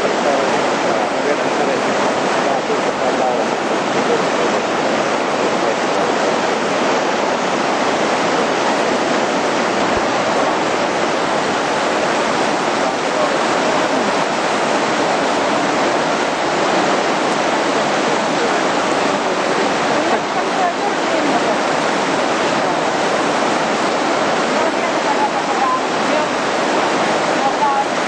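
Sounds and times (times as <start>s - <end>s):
river rapids rushing: 0.0s - 28.0s.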